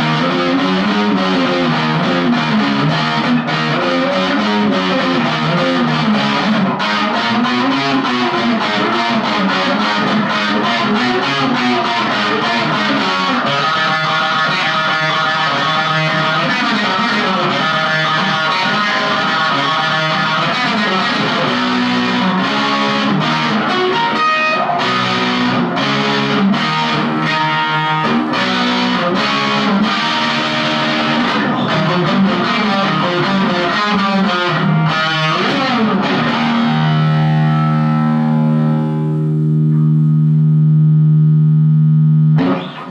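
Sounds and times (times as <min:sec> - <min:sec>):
distorted electric guitar riffs: 0:00.0 - 0:42.9.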